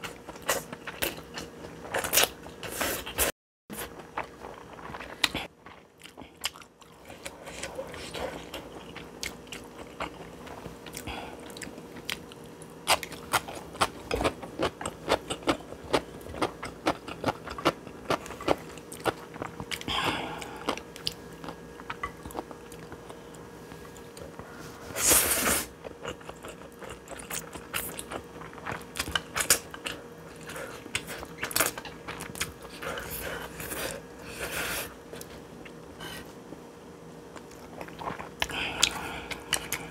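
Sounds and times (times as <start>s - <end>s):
person chewing noodles: 0.0s - 24.7s, 25.5s - 36.3s, 37.3s - 39.9s.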